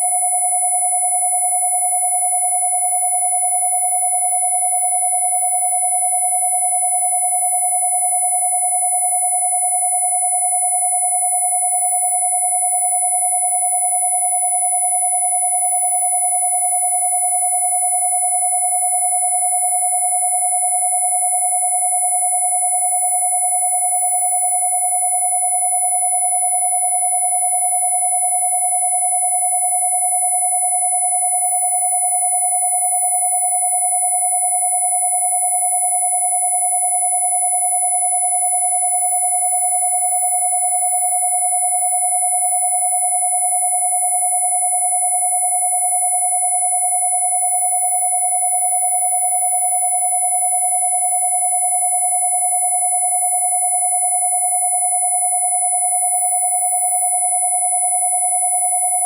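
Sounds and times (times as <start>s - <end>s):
mid-pitched sine tone: 0.0s - 59.0s
very high sine tone: 0.0s - 59.0s.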